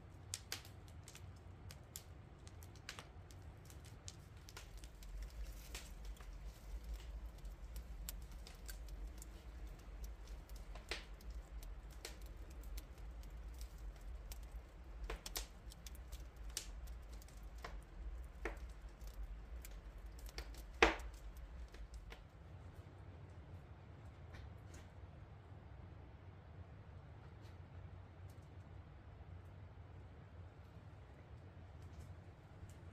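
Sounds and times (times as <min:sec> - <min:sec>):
embers crackling and popping: 0:00.0 - 0:25.0, 0:29.4 - 0:32.9
low steady rumble: 0:00.0 - 0:32.9.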